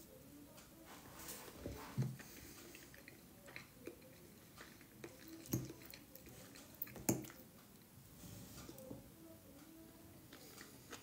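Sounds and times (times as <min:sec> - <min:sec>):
quiet chewing: 0:00.6 - 0:11.0.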